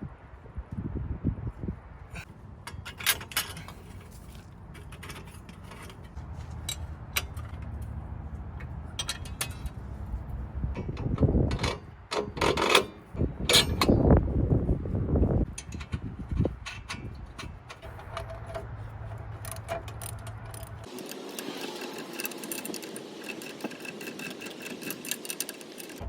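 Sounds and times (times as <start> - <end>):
metal part clicks and knocks: 2.2 - 7.9, 8.6 - 9.9, 10.7 - 14.1, 15.4 - 26.0
metal scraping: 2.2 - 14.3, 15.4 - 26.0.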